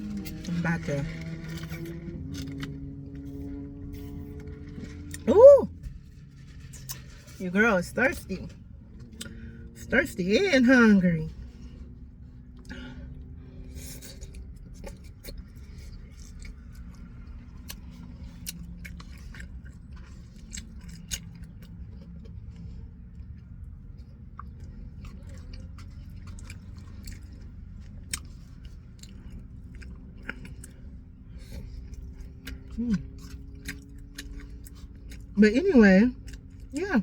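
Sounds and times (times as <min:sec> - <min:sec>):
person chewing food: 0:00.0 - 0:05.5, 0:08.8 - 0:09.6, 0:11.4 - 0:35.4, 0:36.2 - 0:36.8
steady low hum: 0:00.0 - 0:37.0.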